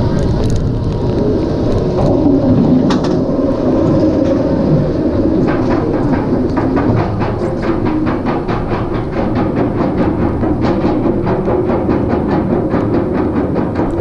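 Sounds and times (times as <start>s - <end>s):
roller coaster wheels rumbling: 0.0s - 14.0s
wind rushing over microphone: 0.0s - 14.0s.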